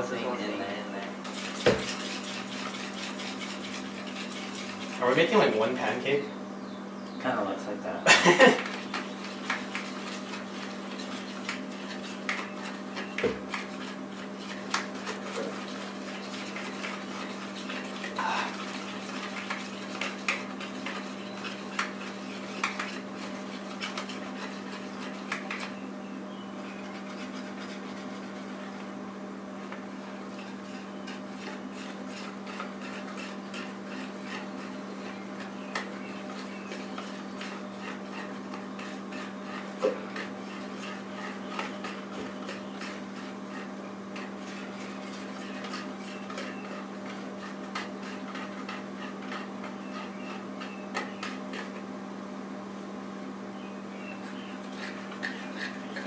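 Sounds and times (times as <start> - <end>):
whisk scraping plastic bowl: 0.0 - 6.2, 8.4 - 25.8, 26.6 - 51.9, 54.1 - 56.0
steady low hum: 0.0 - 56.0.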